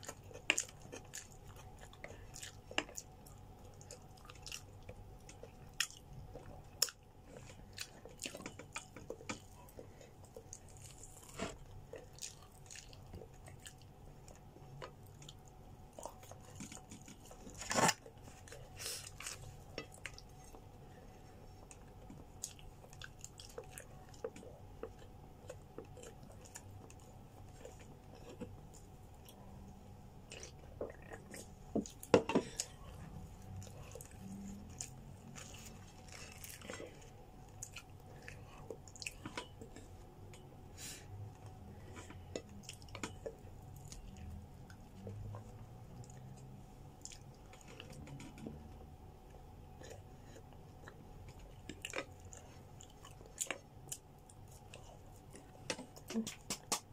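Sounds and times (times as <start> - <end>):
close chewing and mouth sounds: 0.0 - 56.9
faint steady hum: 0.0 - 56.9.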